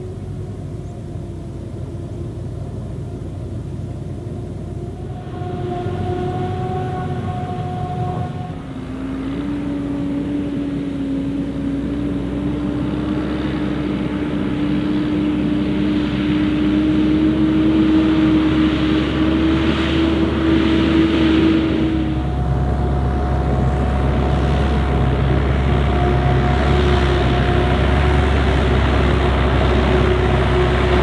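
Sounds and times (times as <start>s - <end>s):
diesel farm machinery drone: 0.0s - 31.0s.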